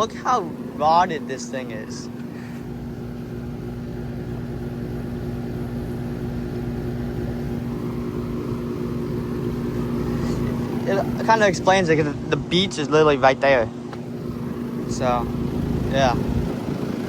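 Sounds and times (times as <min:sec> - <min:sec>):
compressor hum: 0:00.0 - 0:17.0
fan rushing: 0:00.0 - 0:17.0.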